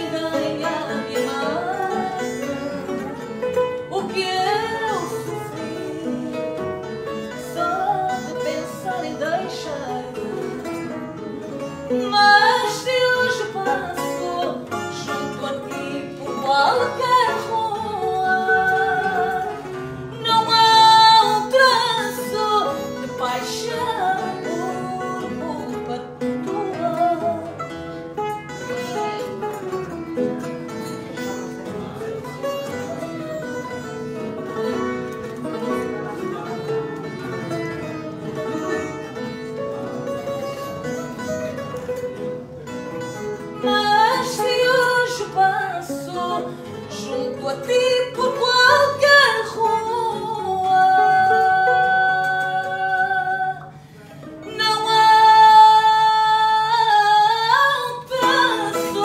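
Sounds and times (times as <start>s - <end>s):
guitars playing fado music: 0.0s - 59.0s.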